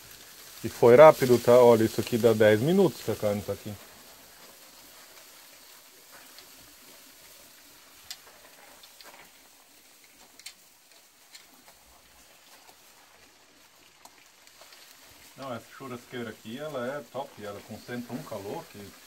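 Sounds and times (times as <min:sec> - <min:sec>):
meat sizzling on charcoal grill: 0:00.0 - 0:19.0.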